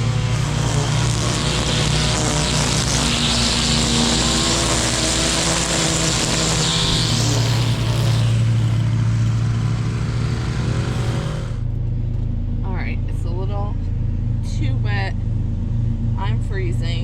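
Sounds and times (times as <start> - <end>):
lawn mower engine running: 0.0 - 16.8.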